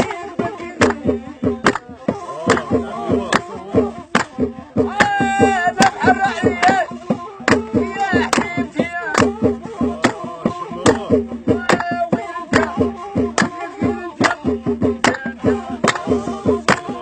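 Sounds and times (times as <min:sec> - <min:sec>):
hand clapping in time: 0:00.0 - 0:17.0
person singing: 0:00.0 - 0:17.0.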